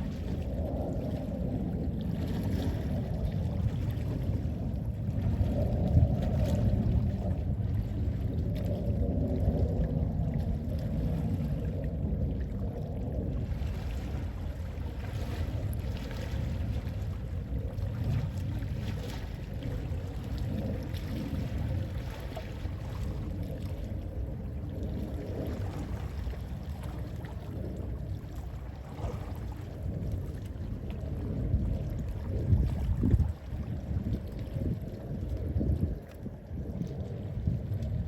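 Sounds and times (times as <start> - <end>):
gentle sea waves: 0.0 - 38.0
wind rumbling on microphone: 0.0 - 38.0.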